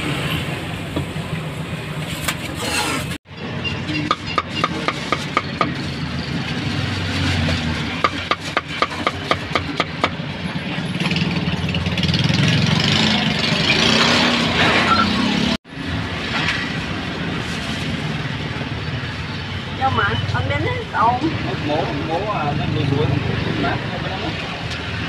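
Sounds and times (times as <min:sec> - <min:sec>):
motorbikes and traffic hum: 0:00.0 - 0:25.0.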